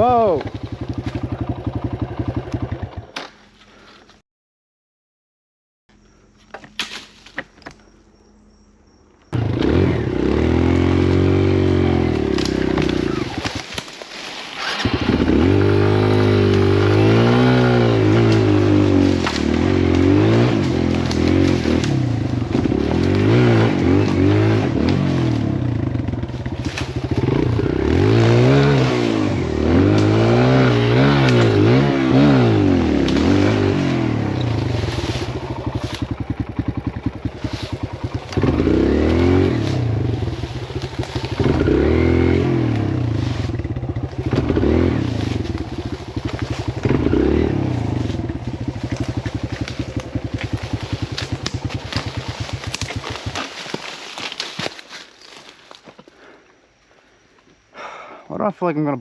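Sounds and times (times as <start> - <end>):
dirt bike engine revving: 0.0 - 3.1, 9.3 - 13.7, 14.5 - 54.3.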